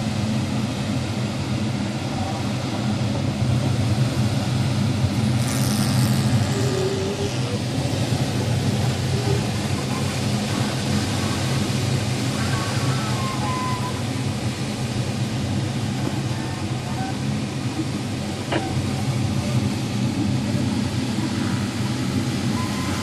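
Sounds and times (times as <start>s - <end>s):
airflow over glider canopy: 0.0s - 23.0s.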